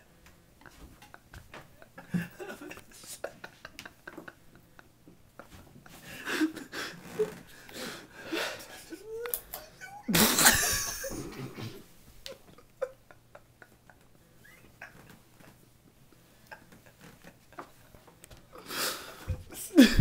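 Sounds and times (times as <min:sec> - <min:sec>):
young men laughing: 0:00.6 - 0:15.6, 0:16.2 - 0:20.0.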